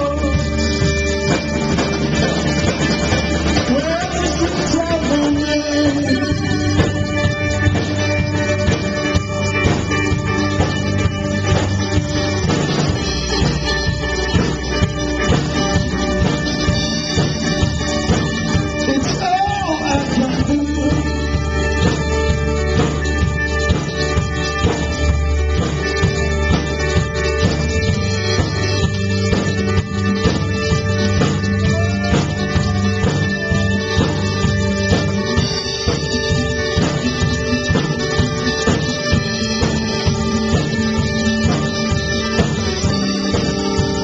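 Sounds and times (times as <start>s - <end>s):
electric guitar ringing: 0.0s - 44.0s
rock band playing live: 0.0s - 44.0s.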